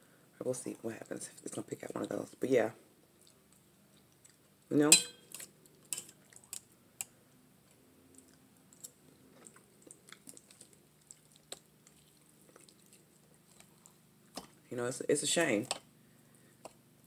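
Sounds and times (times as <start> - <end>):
soft chewing: 0.6 - 4.7, 5.3 - 14.7, 15.6 - 17.0.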